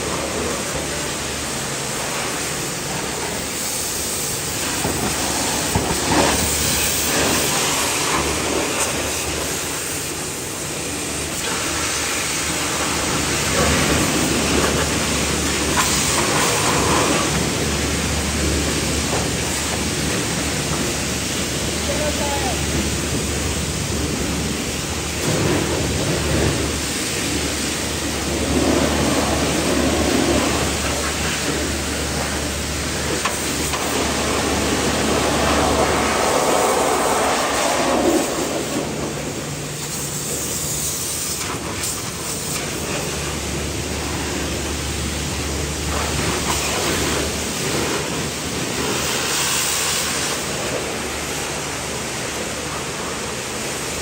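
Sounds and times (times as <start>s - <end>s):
pressure washer spraying: 0.0s - 54.0s.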